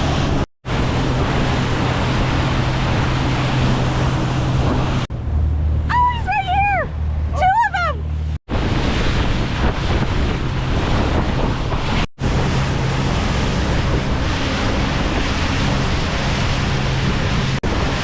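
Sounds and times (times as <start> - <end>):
wind buffeting microphone: 0.0 - 7.4, 8.5 - 18.0
low engine drone: 0.0 - 18.0
water rushing along boat: 0.0 - 18.0.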